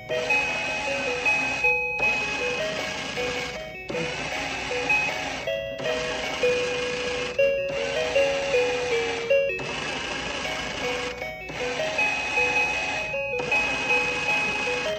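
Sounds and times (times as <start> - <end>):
simple electronic tune: 0.0 - 14.9
small motor whirring: 0.0 - 14.9.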